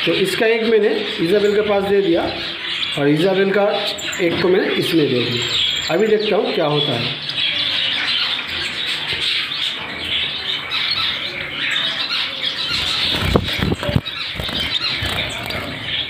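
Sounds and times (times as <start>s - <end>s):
caged birds chattering and squawking: 0.0s - 16.0s.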